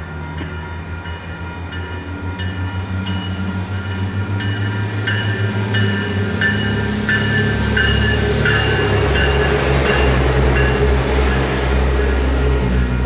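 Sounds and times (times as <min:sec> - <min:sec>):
low rumble of a train: 0:00.0 - 0:13.0
railroad crossing bell ringing: 0:00.0 - 0:13.0.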